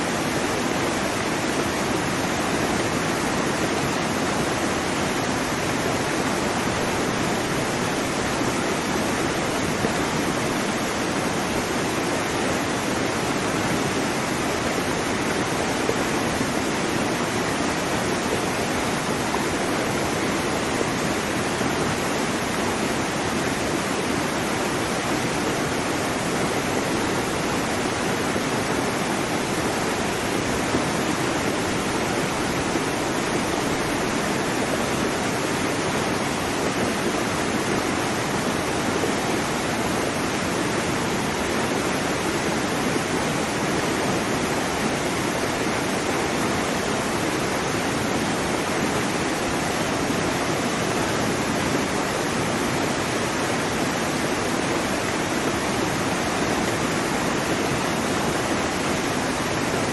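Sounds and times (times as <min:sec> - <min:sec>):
waterfall: 0:00.0 - 0:59.9.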